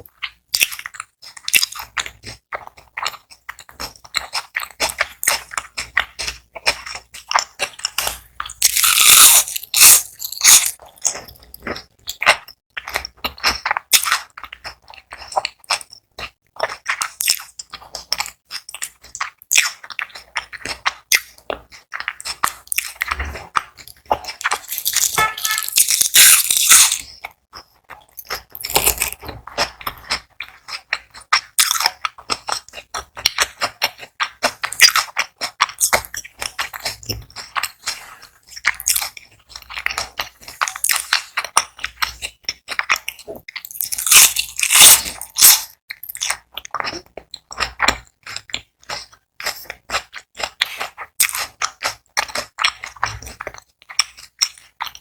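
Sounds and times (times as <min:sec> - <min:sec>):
chewing crispy onion rings: 0:00.0 - 0:55.0.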